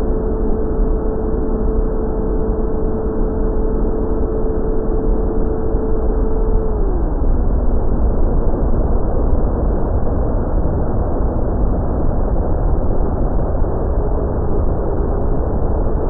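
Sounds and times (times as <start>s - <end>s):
electric motor and propeller tone: 0.0s - 16.0s.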